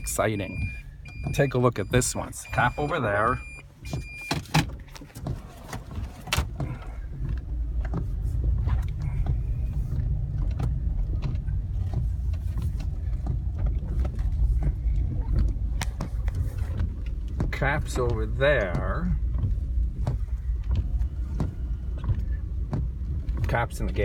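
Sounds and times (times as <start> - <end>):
car low rumble: 0.0 - 24.0.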